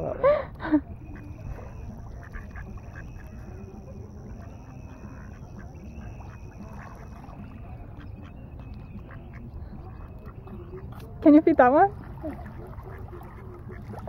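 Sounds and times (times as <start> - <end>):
ducks splashing and dabbling: 0.5 - 14.0.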